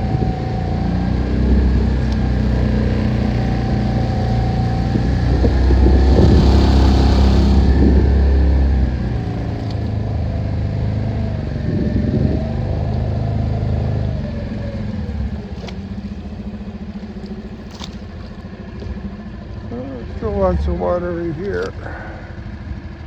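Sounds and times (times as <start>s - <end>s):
boat motor running: 0.0s - 22.1s.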